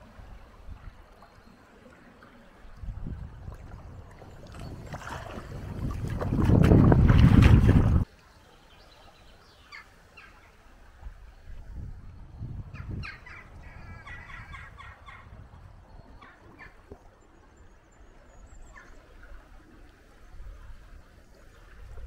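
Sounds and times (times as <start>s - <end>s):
river rumble: 0.0s - 22.0s.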